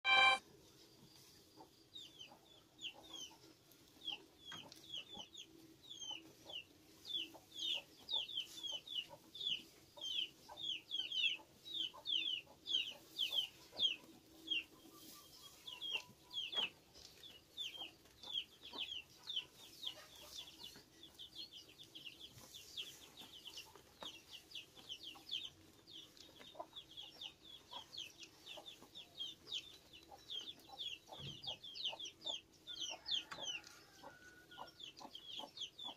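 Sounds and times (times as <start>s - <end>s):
chickens peeping: 0.0s - 0.4s, 1.1s - 35.9s.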